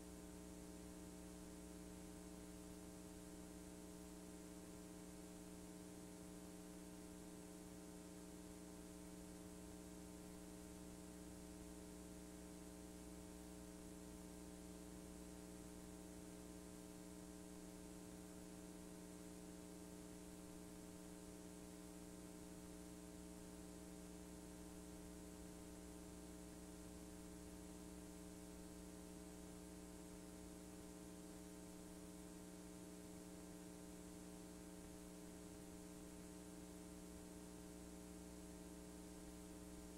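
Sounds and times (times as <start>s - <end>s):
faint electrical hum with hiss: 0.0s - 39.9s.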